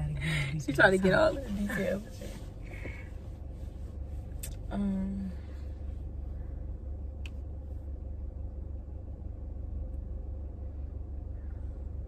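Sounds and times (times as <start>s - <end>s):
car engine hum inside cabin: 0.0s - 12.0s.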